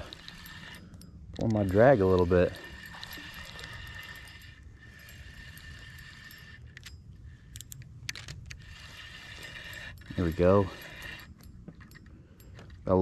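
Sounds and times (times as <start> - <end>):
fishing reel clicks: 0.0 - 13.0
low steady rumble: 0.0 - 13.0.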